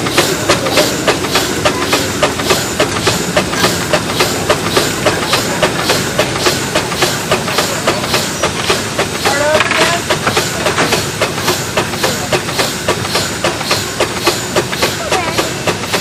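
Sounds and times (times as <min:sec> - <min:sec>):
steam engine chuffing: 0:00.0 - 0:16.0.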